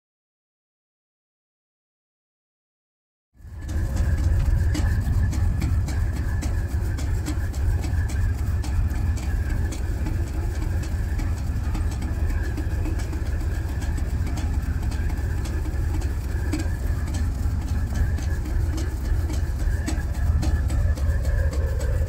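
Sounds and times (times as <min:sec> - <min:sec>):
diesel engines low rumble: 0:03.4 - 0:22.0
propellers churning water: 0:03.4 - 0:22.0.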